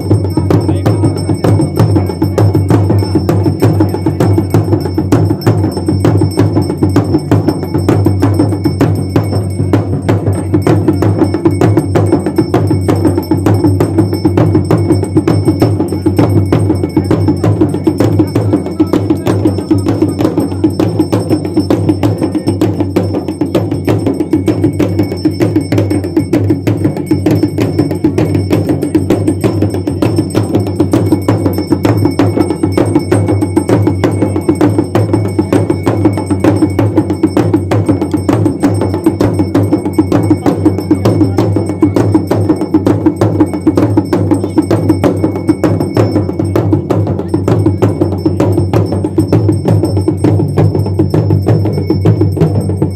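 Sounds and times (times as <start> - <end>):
dhol drums beating: 0.0 - 52.9.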